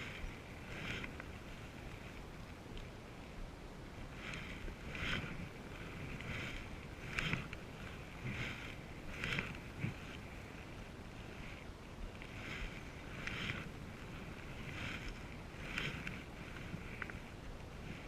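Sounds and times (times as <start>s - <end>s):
paddles splashing through water: 0.0s - 3.2s, 3.9s - 18.0s
wind on microphone: 0.0s - 18.0s.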